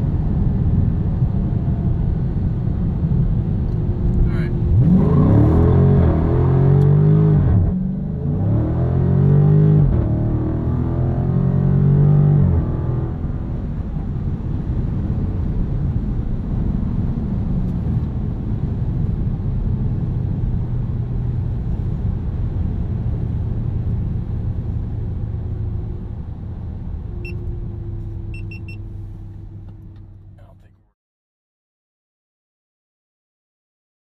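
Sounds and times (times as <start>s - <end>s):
low engine drone: 0.0s - 30.9s
road and tyre noise: 0.0s - 30.9s.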